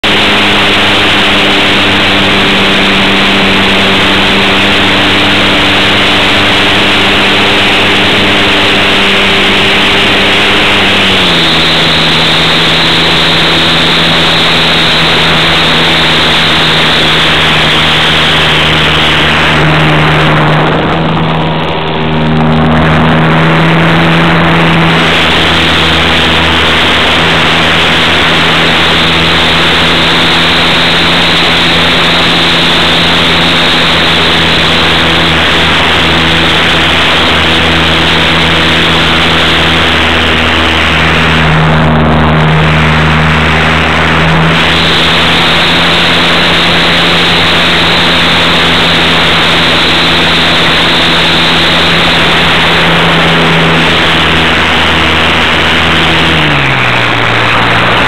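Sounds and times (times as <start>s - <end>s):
model airplane motor and propeller: 0.0s - 58.0s
rush of air: 0.0s - 58.0s.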